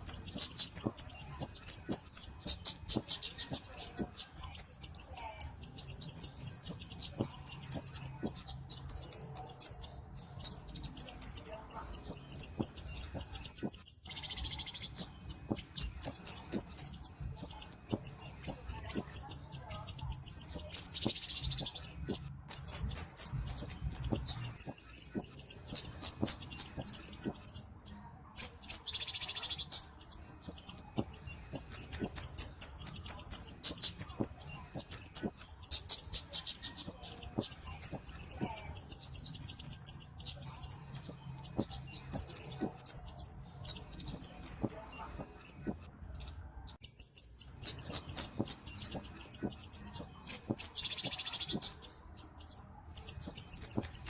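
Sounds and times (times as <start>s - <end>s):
bird high thin ticking trills: 0.0s - 54.0s.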